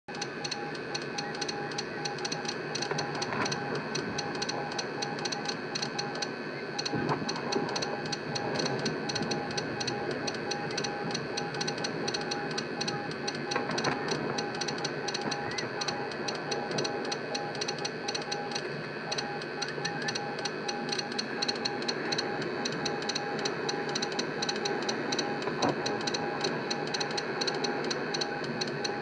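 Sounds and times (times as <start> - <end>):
fast regular ticking: 0.1 - 29.0
morse code beeps: 0.1 - 29.0
noisy background: 0.1 - 29.0.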